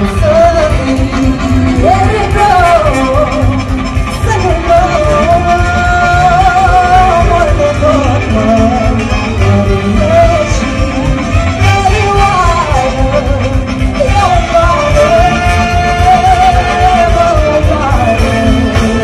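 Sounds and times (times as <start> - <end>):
symphony orchestra: 0.0 - 19.0.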